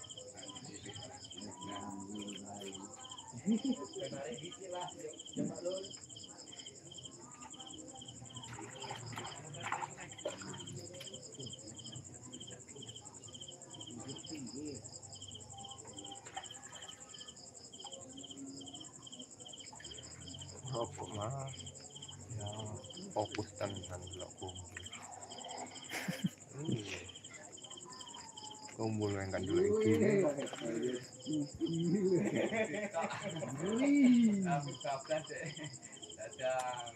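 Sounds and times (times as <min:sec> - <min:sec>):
continuous high insect trill: 0:00.0 - 0:36.9
crickets chirping: 0:00.0 - 0:36.9.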